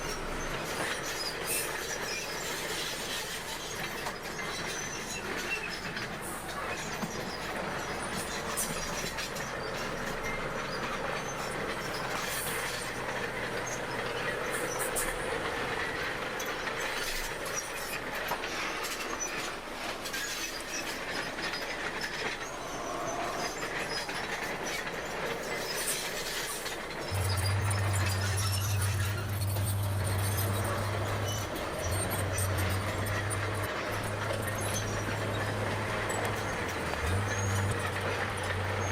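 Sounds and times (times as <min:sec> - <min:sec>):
bulldozer tracks squealing and clanking: 0:00.0 - 0:38.9.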